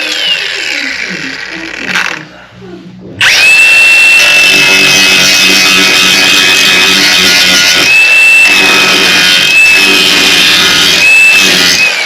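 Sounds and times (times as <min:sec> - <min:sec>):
angle grinder grinding metal: 0:00.0 - 0:02.3, 0:03.2 - 0:12.0.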